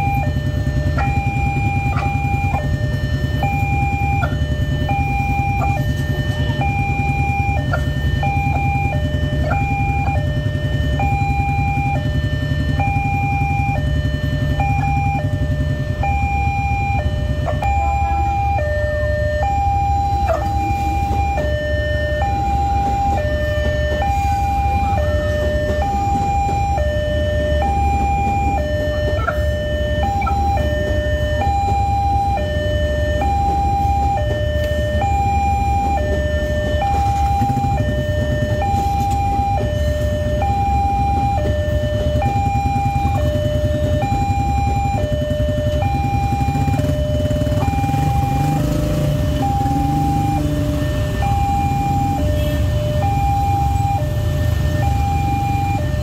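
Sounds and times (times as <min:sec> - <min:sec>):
two-tone level crossing alarm: 0:00.0 - 0:56.0.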